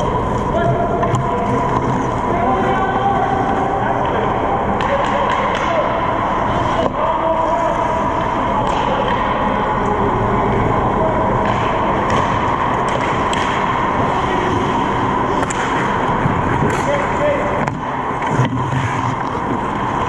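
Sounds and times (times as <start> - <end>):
ice rink hum: 0.0 - 20.0.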